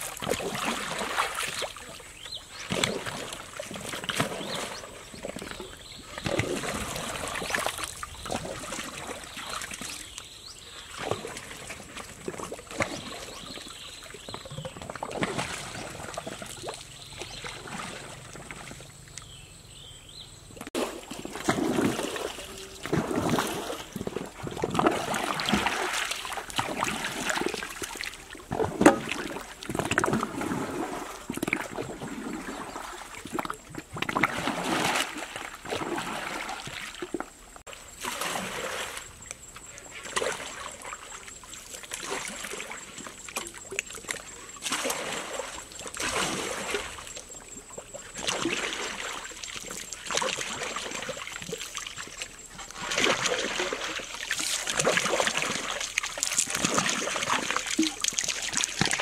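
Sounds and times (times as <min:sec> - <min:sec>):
water splashing and trickling: 0:00.0 - 0:19.5, 0:20.4 - 0:59.0.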